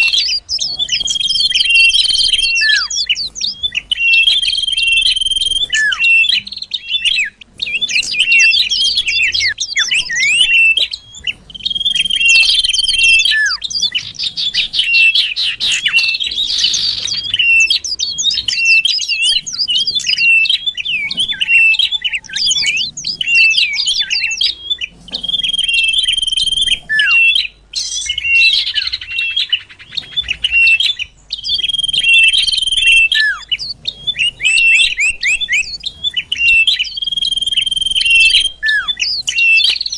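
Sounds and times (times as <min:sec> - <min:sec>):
bird chirps and trills: 0:00.0 - 0:39.9
bird whistles: 0:00.0 - 0:39.9.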